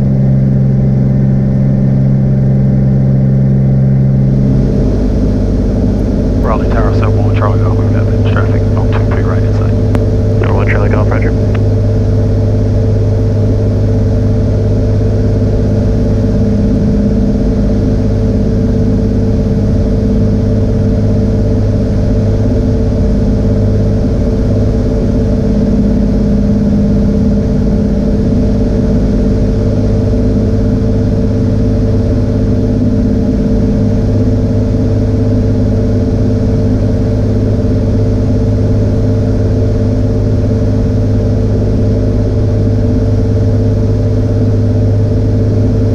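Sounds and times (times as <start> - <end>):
piston engine and propeller drone: 0.0 - 45.9.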